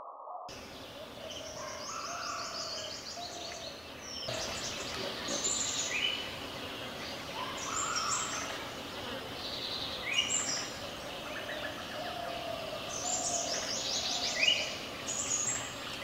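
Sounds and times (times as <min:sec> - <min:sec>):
birds chirping: 0:00.5 - 0:16.0.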